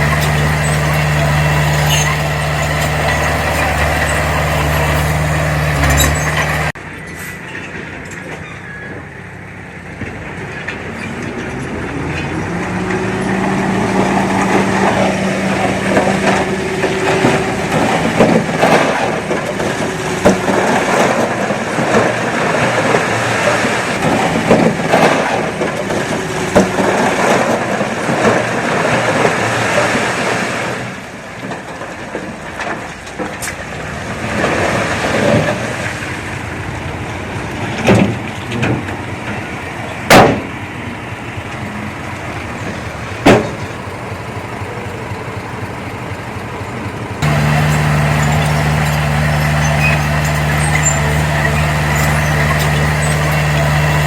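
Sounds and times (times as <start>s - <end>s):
tracks clanking and rattling: 0.0s - 9.1s, 9.8s - 54.0s
bulldozer diesel engine: 0.0s - 54.0s.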